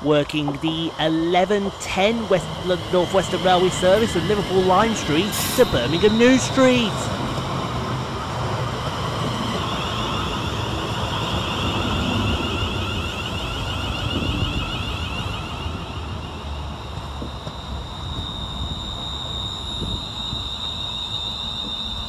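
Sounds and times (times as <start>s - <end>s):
high wavering whine: 0.0s - 22.0s
train wheels rumbling on rail: 0.0s - 22.0s.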